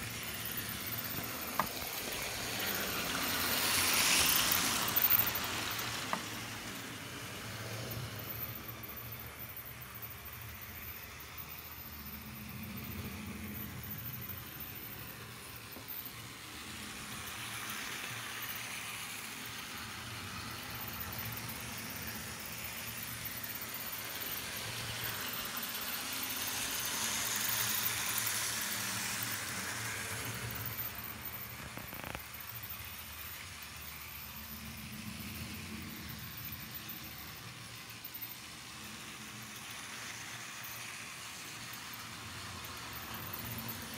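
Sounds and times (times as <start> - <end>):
model train motor hum: 0.0 - 43.9.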